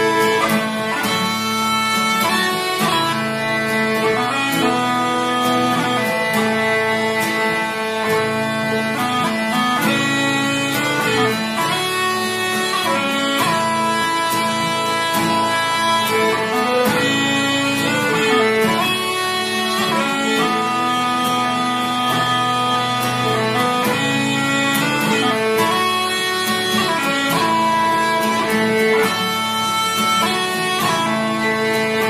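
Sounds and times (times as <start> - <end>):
instrumental music with drone: 0.0 - 32.0.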